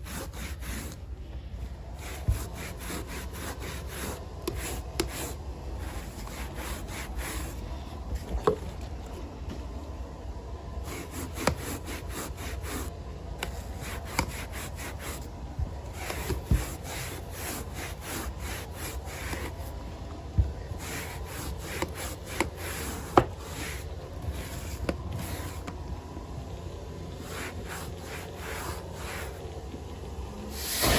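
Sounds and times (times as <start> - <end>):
brush scrubbing carpet: 0.0 - 1.0, 2.0 - 8.5, 10.8 - 25.9, 27.1 - 29.6, 30.6 - 30.9.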